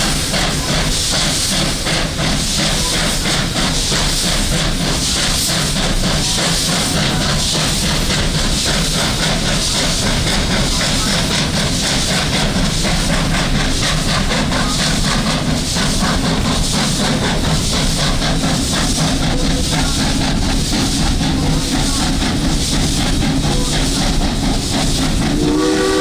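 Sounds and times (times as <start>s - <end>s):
train rumbling and rattling: 0.0s - 26.0s.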